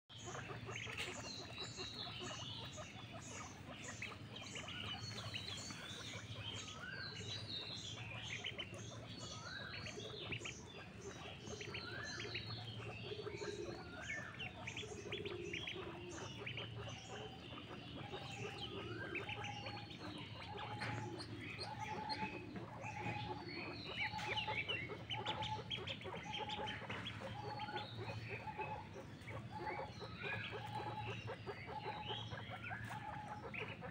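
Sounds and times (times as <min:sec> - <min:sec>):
ducklings peeping: 0:00.1 - 0:33.9.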